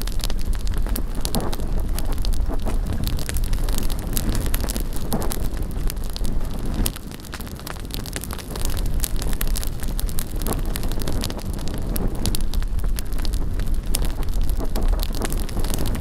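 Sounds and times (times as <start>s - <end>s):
bonfire crackling and popping: 0.0s - 16.0s
wind rumbling on microphone: 0.0s - 16.0s.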